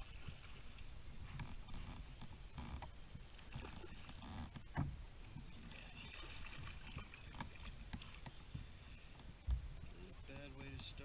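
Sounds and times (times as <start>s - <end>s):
water lapping at kayak hull: 0.0s - 10.0s.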